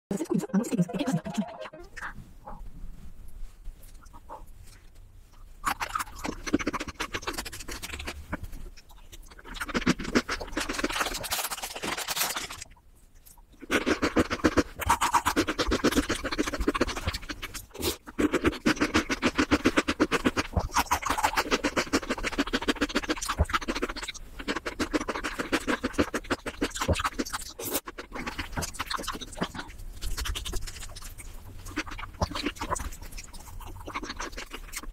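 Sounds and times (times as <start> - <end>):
crunchy chewing of ice: 5.4 - 34.9.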